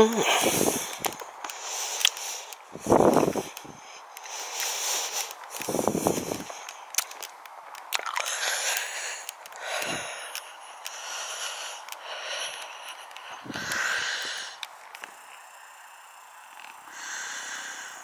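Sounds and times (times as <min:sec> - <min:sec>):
steady hiss: 0:00.0 - 0:18.0
light clicks: 0:00.8 - 0:15.2.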